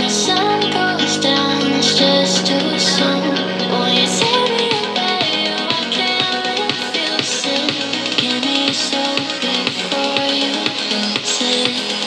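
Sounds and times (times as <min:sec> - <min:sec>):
pop song with guitar and beat: 0:00.0 - 0:12.0.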